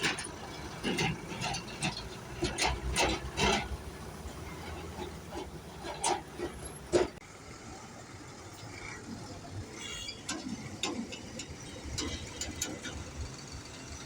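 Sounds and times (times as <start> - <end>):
road traffic rumbling: 0.0 - 14.0.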